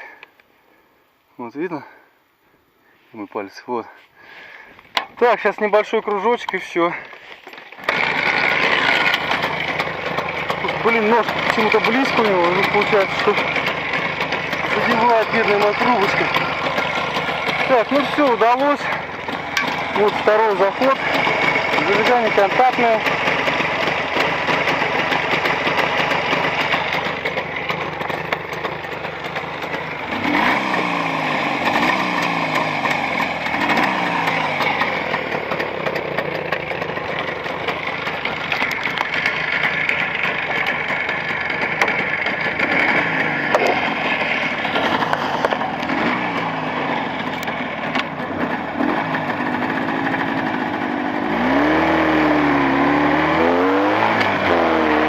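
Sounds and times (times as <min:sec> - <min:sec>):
motorcycle engine shifting gears: 0:04.4 - 0:55.0.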